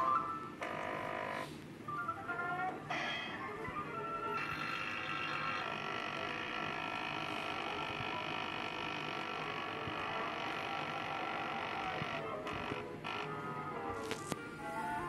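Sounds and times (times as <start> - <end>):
cartoon soundtrack on phone speaker: 0.0 - 15.0.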